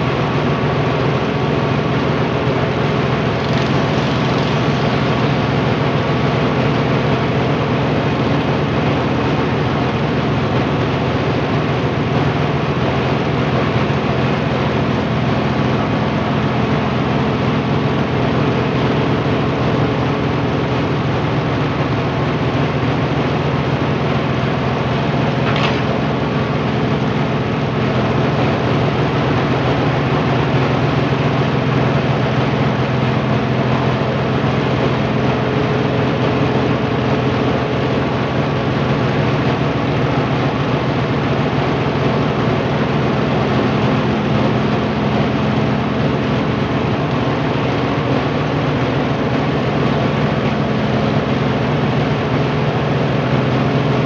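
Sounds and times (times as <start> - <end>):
rice milling machine hum: 0.0 - 54.0.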